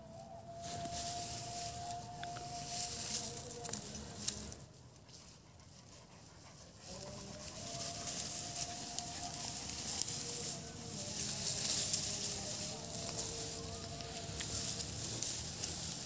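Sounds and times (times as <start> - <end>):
tall grass rustling: 0.0 - 16.0.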